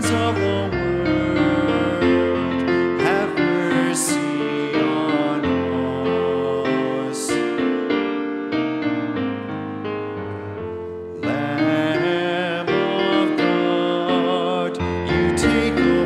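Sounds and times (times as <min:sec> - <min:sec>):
person singing with vibrato: 0:00.0 - 0:08.0, 0:11.1 - 0:16.0
slow piano music: 0:00.0 - 0:16.0.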